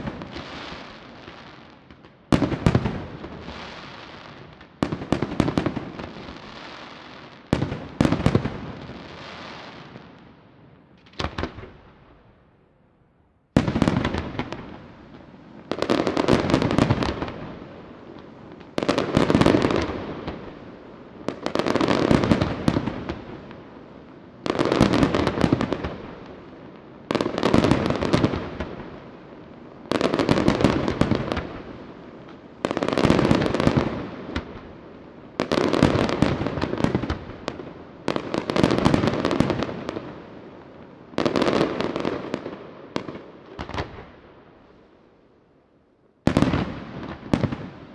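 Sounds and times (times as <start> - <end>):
fireworks bangs and crackles: 0.0 - 12.5, 13.5 - 45.0, 46.2 - 47.9.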